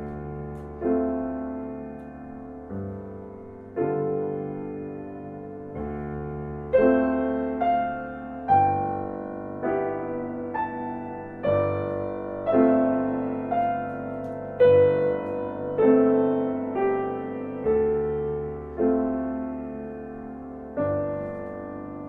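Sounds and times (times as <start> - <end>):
gentle solo piano music: 0.0 - 22.0.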